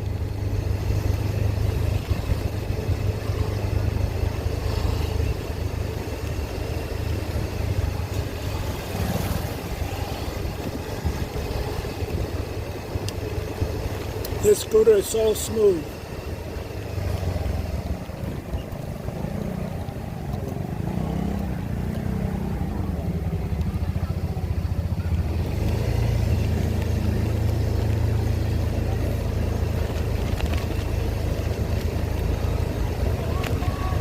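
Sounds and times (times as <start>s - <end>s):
motor scooter engine: 0.0s - 34.0s.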